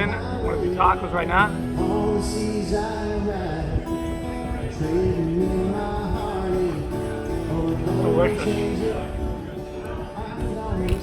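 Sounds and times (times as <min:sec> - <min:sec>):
guitar chords: 0:00.0 - 0:11.0
person singing: 0:00.0 - 0:11.0.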